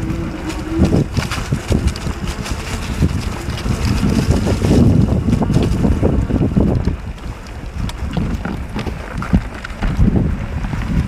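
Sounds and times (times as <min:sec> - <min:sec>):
bike knocks and rattles: 0:00.0 - 0:11.0
wind buffeting microphone: 0:00.0 - 0:11.0.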